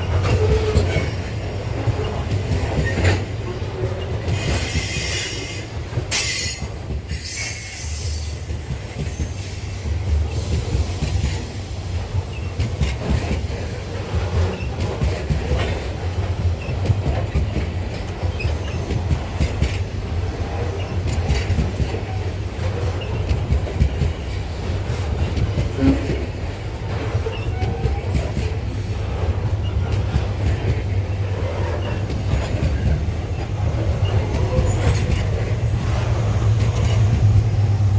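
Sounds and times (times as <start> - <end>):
train wheel squeal: 0.0 - 24.4, 25.0 - 37.4
wheels clacking over rail joints: 0.0 - 37.8
freight train rumbling: 0.0 - 37.9.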